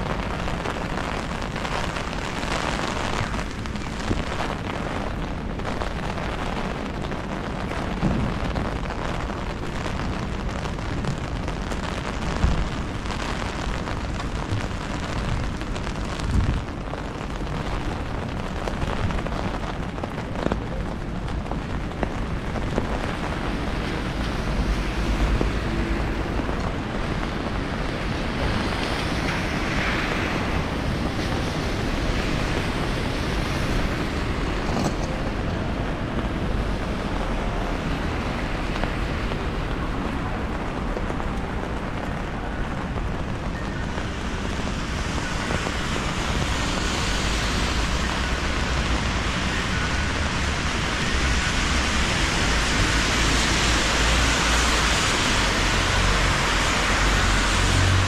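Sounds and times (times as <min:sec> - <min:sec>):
rain pattering on umbrella: 0:00.0 - 0:58.0
tyres hissing on wet road: 0:00.0 - 0:58.0.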